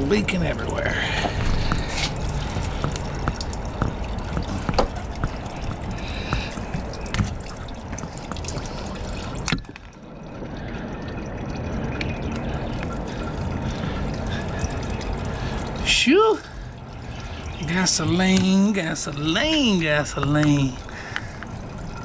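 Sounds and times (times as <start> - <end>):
fuel trickling and dripping: 0.0 - 22.0.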